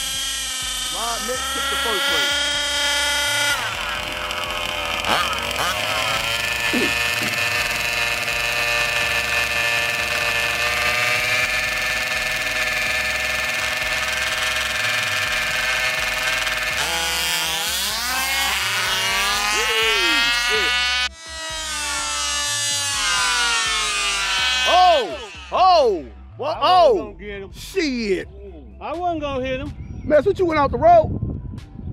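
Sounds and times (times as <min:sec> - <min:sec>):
small gas engines idling and revving: 0:00.0 - 0:27.0.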